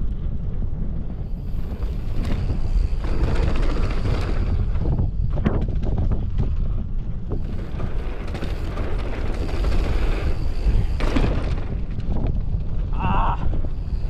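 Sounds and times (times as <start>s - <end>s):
bike rattling over bumps: 0.0s - 14.0s
wind rushing over microphone: 0.0s - 14.0s
tyres rolling on dirt: 1.4s - 14.0s.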